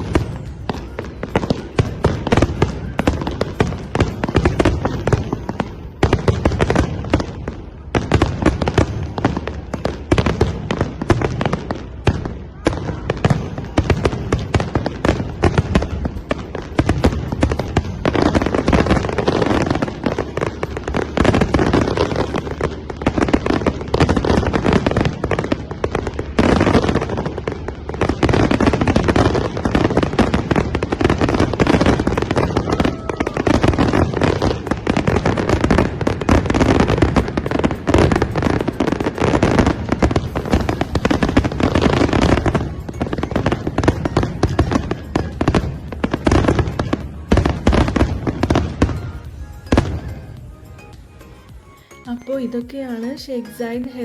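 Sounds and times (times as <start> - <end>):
fireworks crackling and banging: 0.0 - 54.0.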